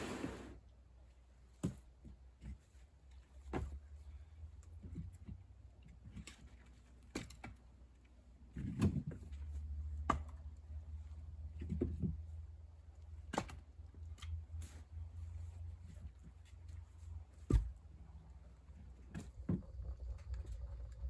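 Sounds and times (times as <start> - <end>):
low steady hum: 2.4 - 21.0.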